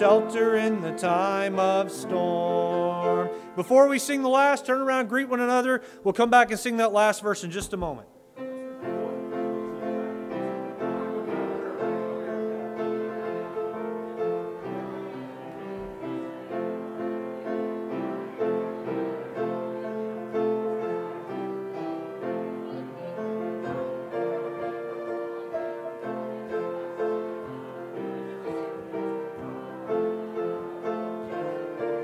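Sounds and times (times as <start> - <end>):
piano playing chords: 0.0 - 5.7, 8.1 - 32.0.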